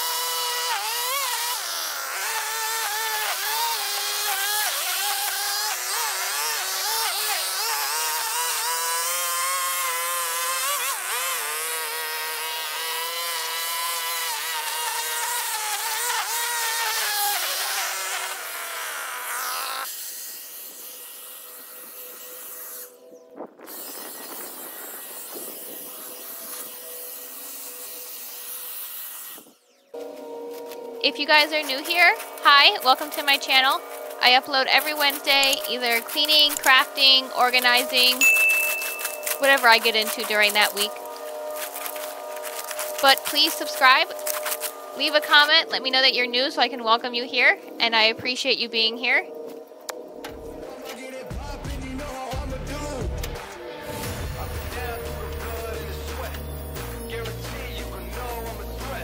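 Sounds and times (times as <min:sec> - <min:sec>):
string trimmer buzzing: 0:00.0 - 0:46.7, 0:52.8 - 0:59.0
rustling outdoor noise: 0:00.0 - 0:51.2.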